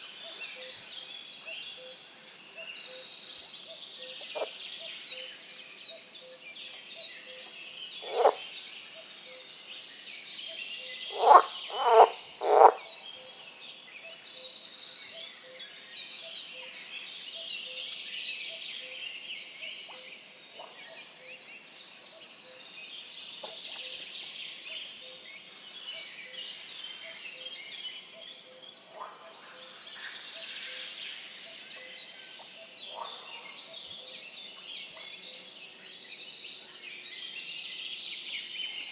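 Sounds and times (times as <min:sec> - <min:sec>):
chorus of songbirds singing: 0:00.0 - 0:38.9.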